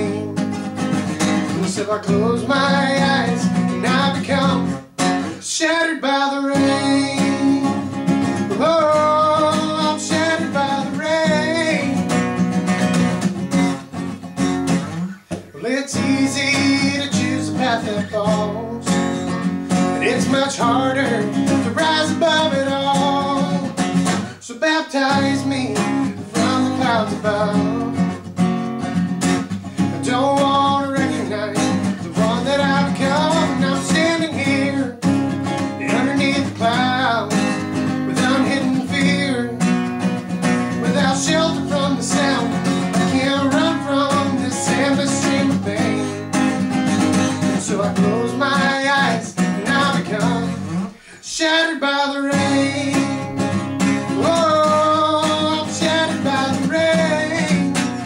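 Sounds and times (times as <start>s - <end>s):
man singing: 0.0s - 12.5s, 15.3s - 28.4s, 29.7s - 58.0s
acoustic guitar strummed: 0.0s - 58.0s.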